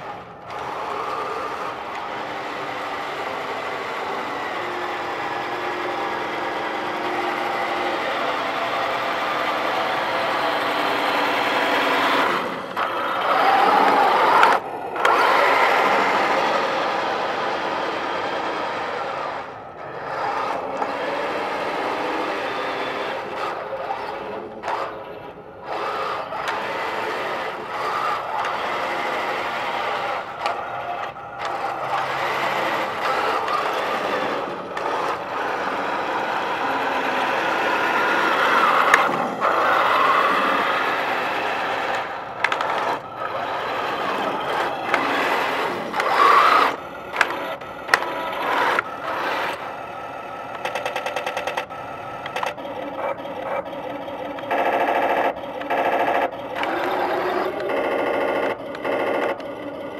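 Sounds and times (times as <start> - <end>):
toy tank motors whirring: 0.0 - 59.9.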